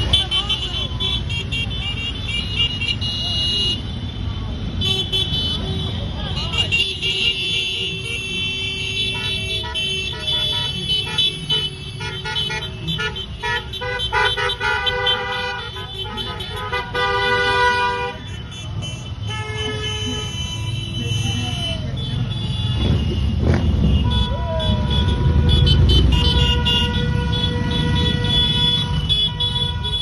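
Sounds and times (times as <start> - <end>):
motorcycle engines passing: 0.0 - 30.0
horns honking short toots: 4.8 - 30.0.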